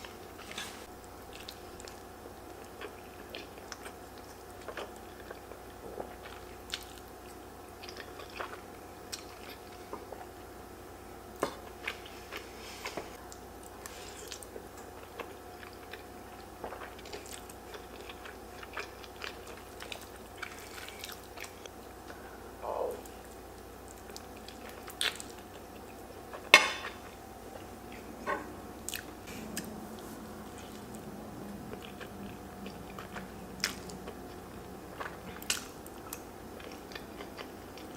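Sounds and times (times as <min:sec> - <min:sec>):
chewing and eating: 0:00.0 - 0:10.6, 0:11.3 - 0:37.9
faint steady hum: 0:00.0 - 0:37.9.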